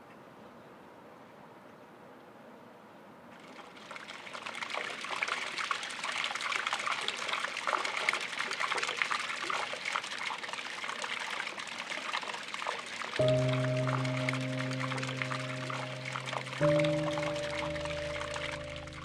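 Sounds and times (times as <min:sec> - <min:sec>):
water trickling into trough: 0:03.4 - 0:19.0.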